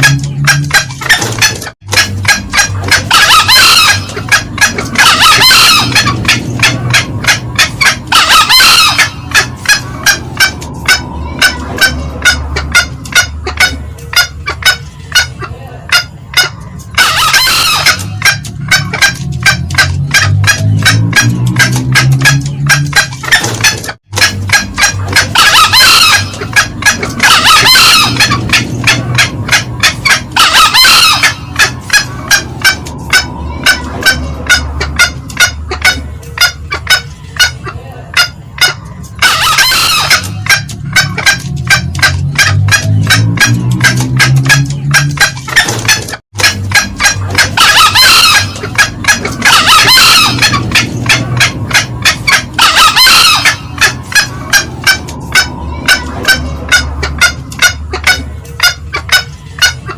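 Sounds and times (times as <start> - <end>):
hen clucking: 0.0 - 59.9
junglefowl crowing: 0.0 - 59.9
sharp cackling notes: 0.0 - 59.9.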